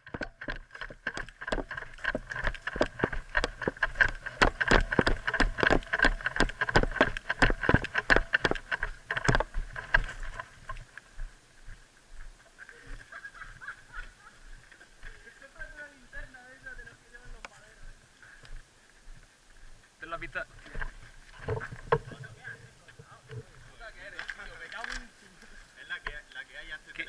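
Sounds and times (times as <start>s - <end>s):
running footsteps on gravel: 0.0s - 22.0s.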